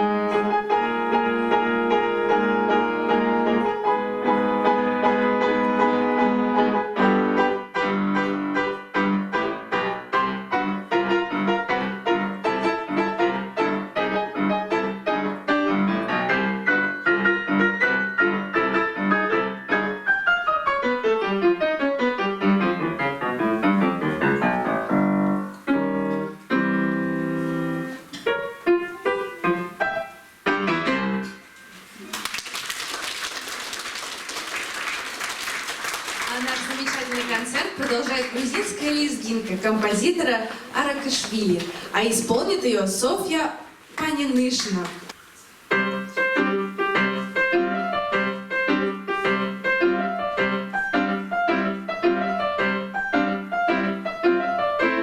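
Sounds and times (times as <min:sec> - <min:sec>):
piano duet: 0:00.0 - 0:55.0.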